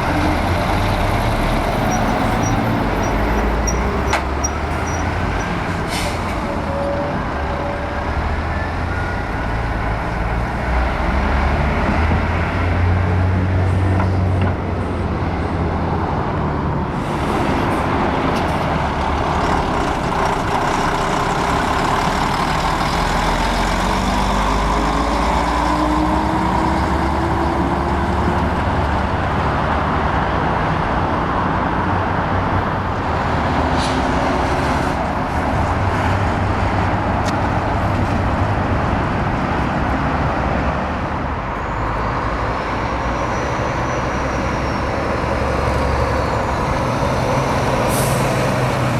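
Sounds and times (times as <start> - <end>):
heavy diesel trucks passing: 0.0 - 48.9.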